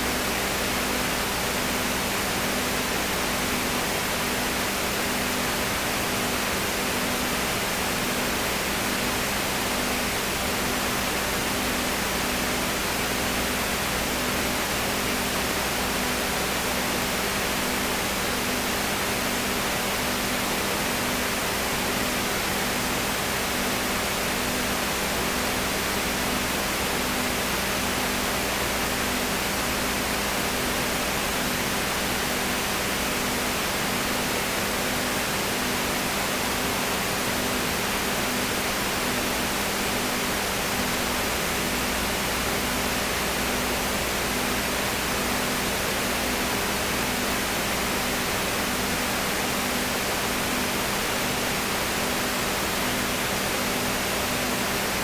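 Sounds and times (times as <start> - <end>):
steady recording hiss: 0.0 - 55.0.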